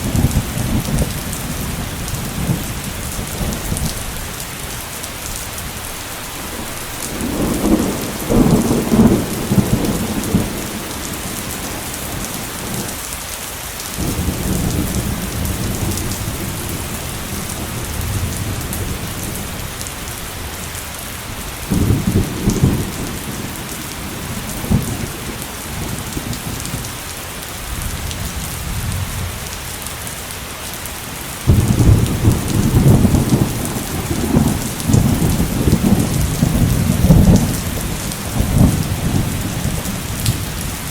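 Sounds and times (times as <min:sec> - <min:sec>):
thunder rumbling: 0:00.0 - 0:13.1, 0:13.9 - 0:29.6, 0:31.4 - 0:40.9
heavy rain pouring: 0:00.0 - 0:40.9.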